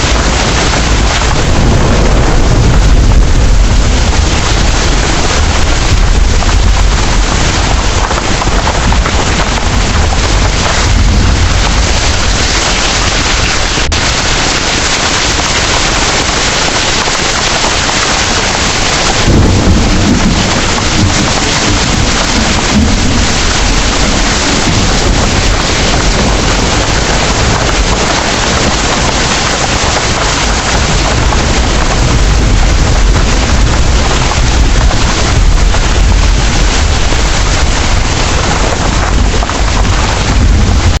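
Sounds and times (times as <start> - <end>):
deep continuous rumble: 0.0 - 41.0
heavy rain pouring: 0.0 - 41.0.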